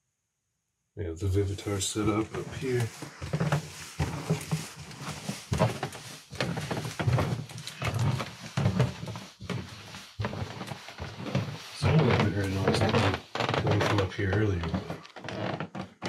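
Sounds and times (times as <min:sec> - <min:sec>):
footsteps climbing stairs: 0:01.7 - 0:16.0.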